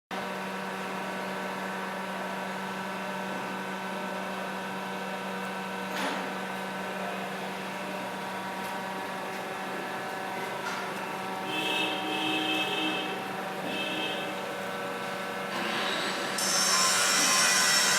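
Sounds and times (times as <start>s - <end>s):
wire bending machine humming: 0.2s - 17.9s.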